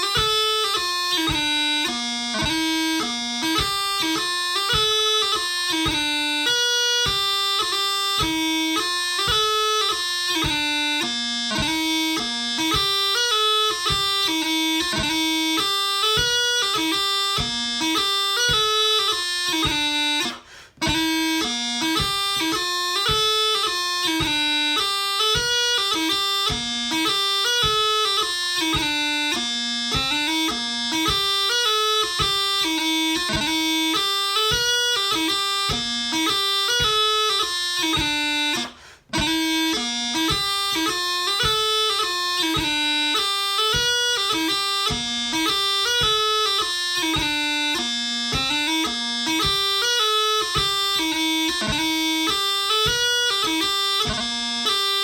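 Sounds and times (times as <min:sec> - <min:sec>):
bagpipe chanter playing a hornpipe: 0:00.0 - 0:55.0.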